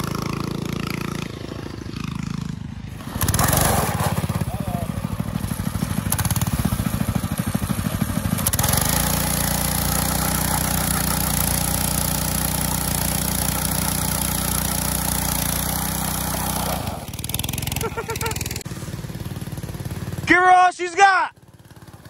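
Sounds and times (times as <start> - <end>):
small engine idling and revving: 0.0 - 20.6, 21.3 - 22.0.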